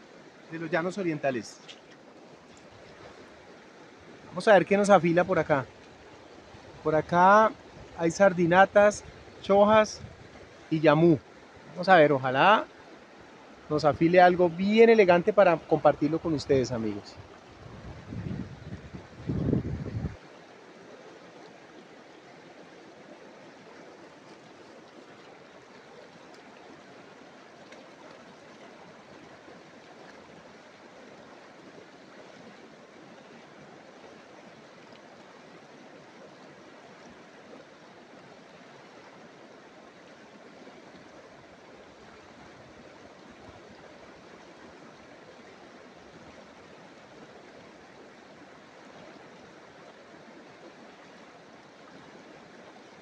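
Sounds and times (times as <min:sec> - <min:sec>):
fast-flowing river rushing: 0:00.0 - 0:53.0.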